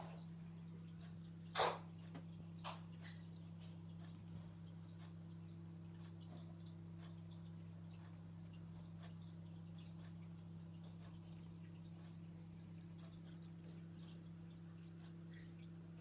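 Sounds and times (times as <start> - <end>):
low electrical hum: 0.0 - 16.0
water dripping: 0.0 - 16.0.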